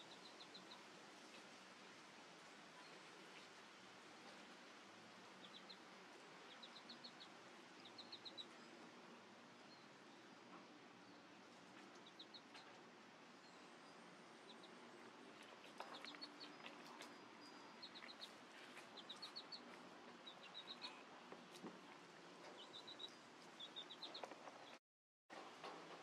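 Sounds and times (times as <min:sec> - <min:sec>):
faint bird chirping: 0:00.0 - 0:02.0, 0:02.7 - 0:24.8.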